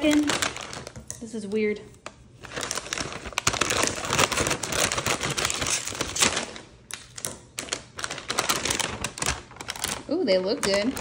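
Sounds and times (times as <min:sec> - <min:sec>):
scissors cutting plastic bag: 0:00.0 - 0:01.2, 0:02.4 - 0:11.0
plastic film crackling: 0:00.0 - 0:11.0.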